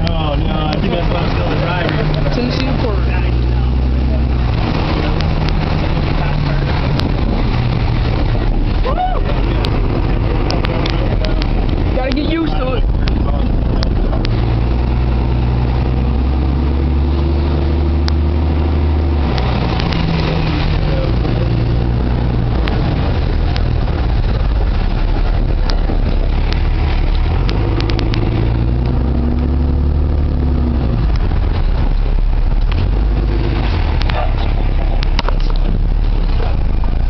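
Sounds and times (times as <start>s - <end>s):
road noise: 0.0s - 37.0s
vehicle engine: 0.0s - 37.0s.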